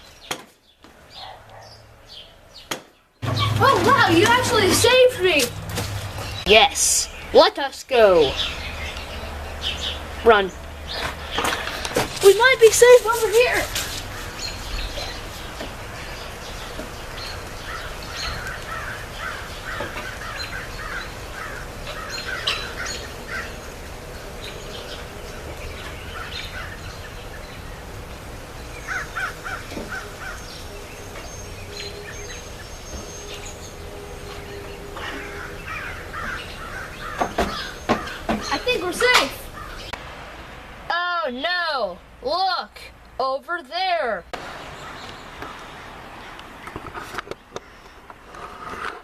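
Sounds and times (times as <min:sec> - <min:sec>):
birds calling: 0:00.0 - 0:40.0, 0:44.4 - 0:48.9.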